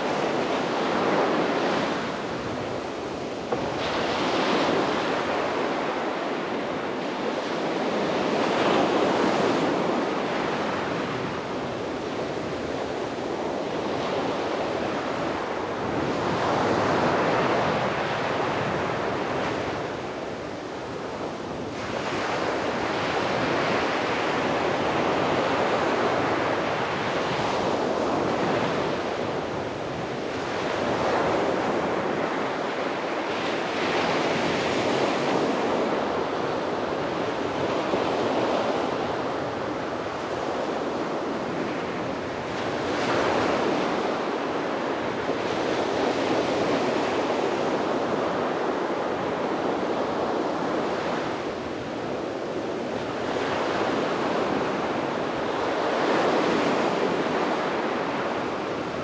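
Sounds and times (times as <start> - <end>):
sea waves breaking on beach: 0.0 - 59.0
wind on microphone: 0.0 - 59.0.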